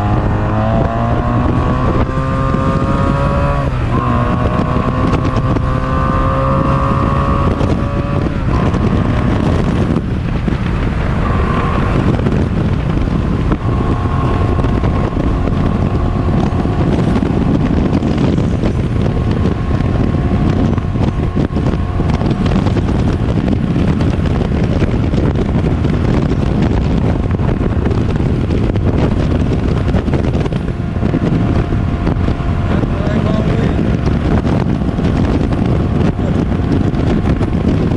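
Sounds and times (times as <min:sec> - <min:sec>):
motorcycle engine running: 0:00.0 - 0:37.9
wind noise on microphone: 0:00.0 - 0:37.9.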